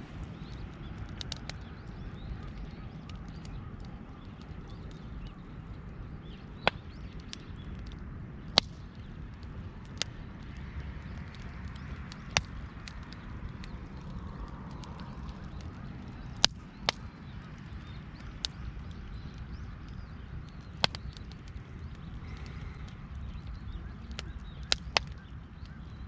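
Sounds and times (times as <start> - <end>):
campfire crackling pops: 0.0 - 26.0
low steady rumble: 0.0 - 26.0.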